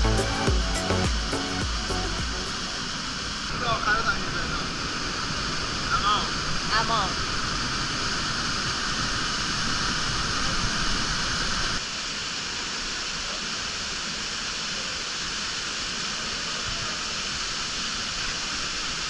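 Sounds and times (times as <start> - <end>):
rushing stream and waterfall: 0.0 - 19.0.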